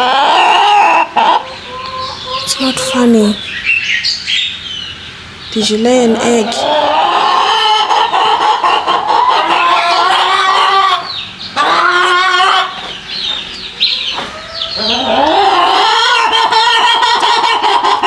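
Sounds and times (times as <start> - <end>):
hens cackling: 0.0 - 3.8, 6.2 - 18.0.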